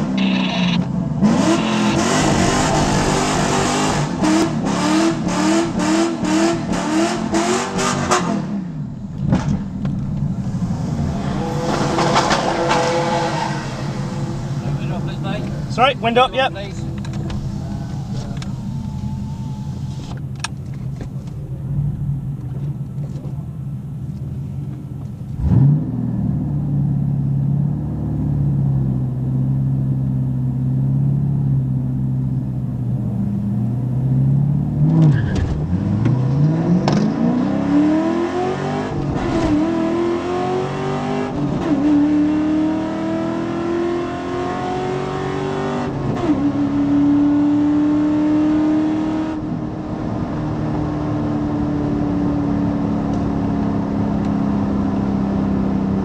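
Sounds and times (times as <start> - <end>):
car engine revving and accelerating: 1.0 - 9.6, 10.4 - 20.2, 25.3 - 32.4, 33.3 - 56.0.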